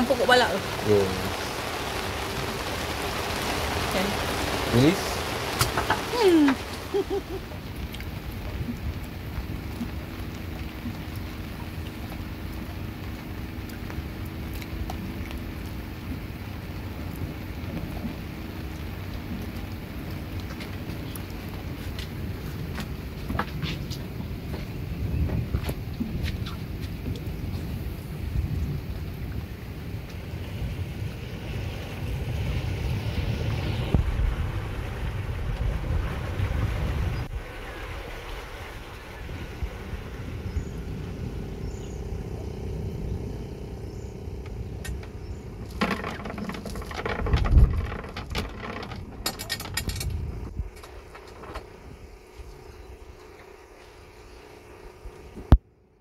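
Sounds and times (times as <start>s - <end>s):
wind buffeting microphone: 0.0s - 53.2s
rain falling on water: 0.0s - 55.7s
low hum: 0.0s - 56.0s
steady low rumble: 0.0s - 56.0s.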